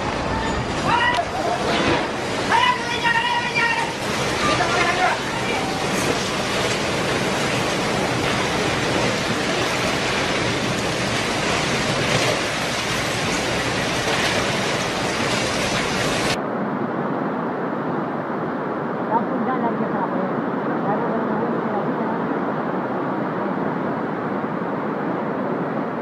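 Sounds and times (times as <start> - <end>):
heavy rushing water: 0.0 - 26.0.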